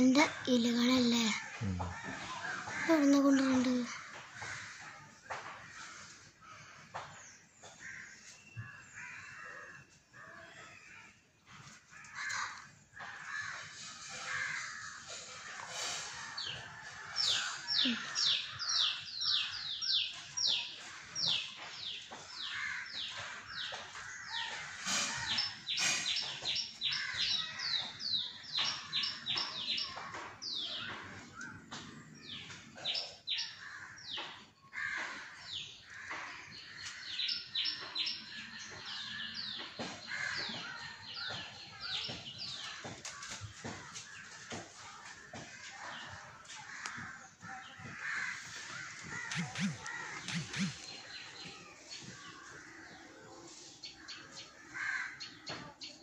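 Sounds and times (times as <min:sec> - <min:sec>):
birds chirping: 0:00.0 - 0:56.0
crows cawing: 0:01.4 - 0:20.0, 0:22.1 - 0:28.0, 0:32.2 - 0:38.0, 0:38.6 - 0:51.6, 0:54.1 - 0:55.5.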